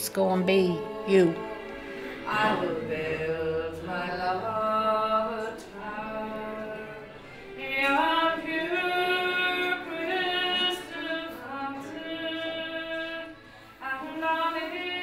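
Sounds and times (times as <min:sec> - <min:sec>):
woman singing a slow song: 0:00.0 - 0:15.0.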